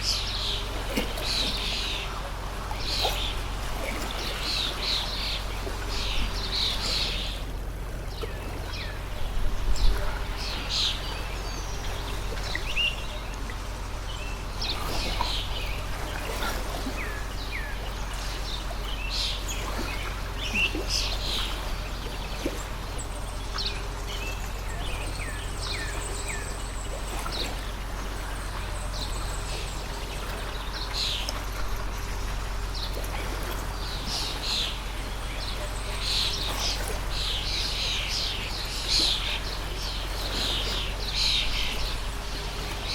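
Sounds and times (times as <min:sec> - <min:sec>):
constant low hum: 0:00.0 - 0:42.9
songbirds chirping: 0:00.0 - 0:42.9
water stream rushing: 0:00.0 - 0:42.9.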